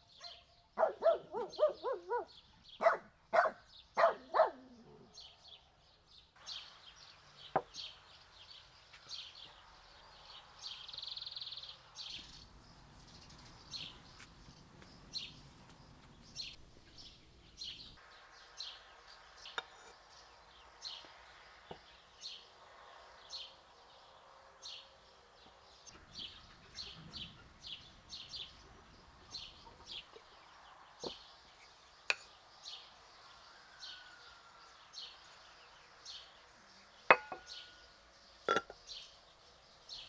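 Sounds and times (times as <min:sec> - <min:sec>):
small bird chirping: 0:06.4 - 0:40.0.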